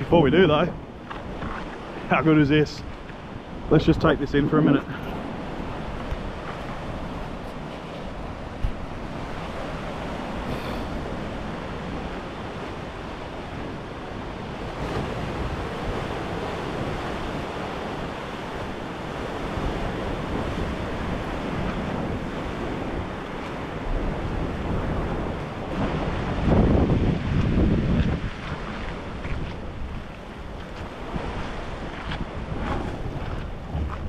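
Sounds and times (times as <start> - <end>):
ocean surf breaking on shore: 0.0 - 34.0
wind buffeting microphone: 0.0 - 34.0.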